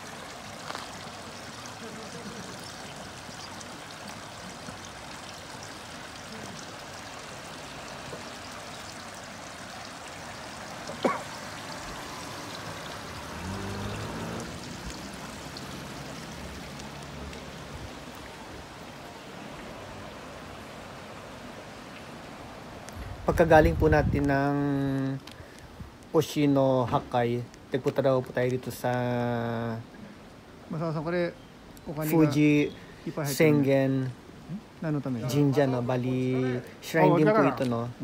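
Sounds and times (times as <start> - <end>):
water running in stream: 0.0 - 38.0.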